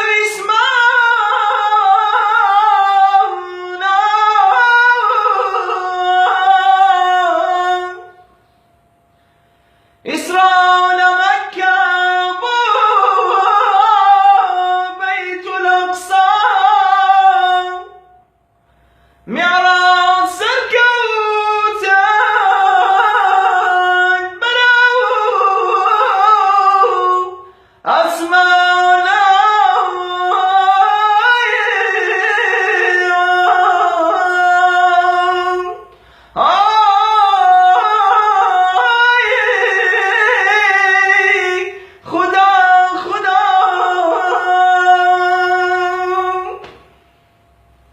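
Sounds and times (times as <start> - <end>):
man singing unaccompanied: 0.0 - 8.4, 10.0 - 18.2, 19.2 - 46.9.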